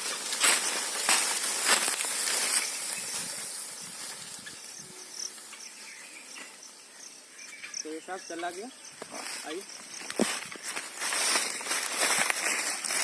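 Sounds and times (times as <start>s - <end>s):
dry vegetation rustling: 0.0s - 13.0s
faint insect chirps: 0.2s - 12.3s.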